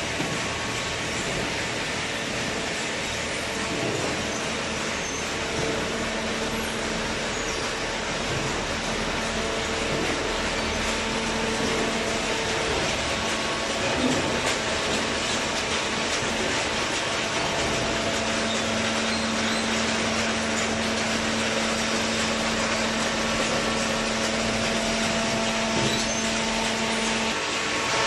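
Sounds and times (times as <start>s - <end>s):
baler mechanical noise: 0.0s - 28.0s.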